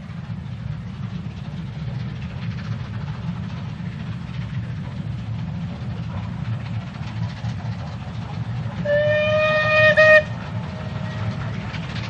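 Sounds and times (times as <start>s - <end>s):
steam locomotive rumbling: 0.0s - 12.0s.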